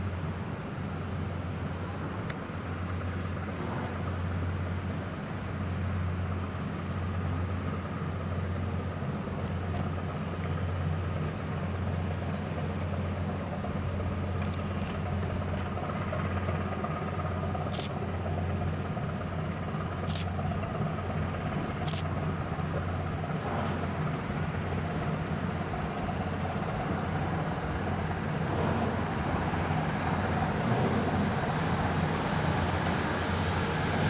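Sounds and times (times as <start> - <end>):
ship diesel engine rumbling: 0.0 - 34.0.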